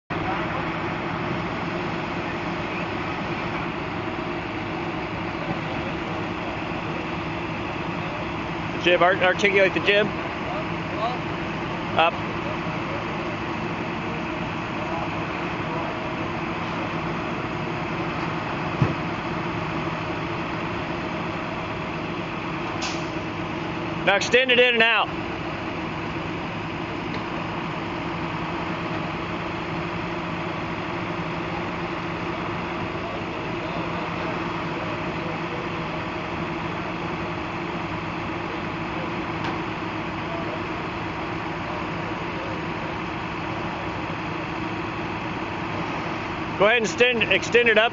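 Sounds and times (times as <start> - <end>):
truck engine humming: 0.1 - 47.9.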